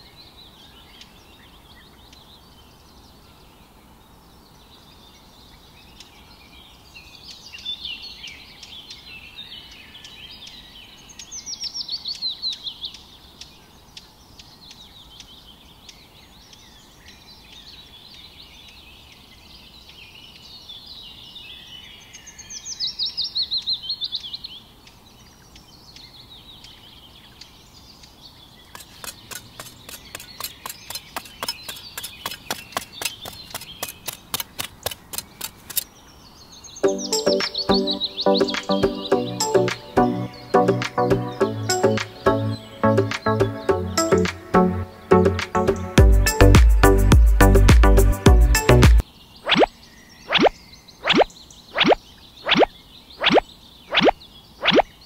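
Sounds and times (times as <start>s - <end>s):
birds singing and chirping: 0.0s - 55.0s.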